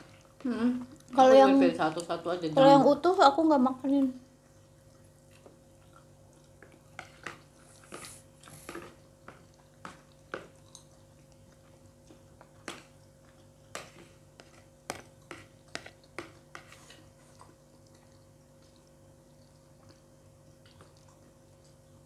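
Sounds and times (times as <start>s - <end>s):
people chewing: 0.0s - 3.2s, 4.0s - 22.0s
faint hum: 0.0s - 22.0s.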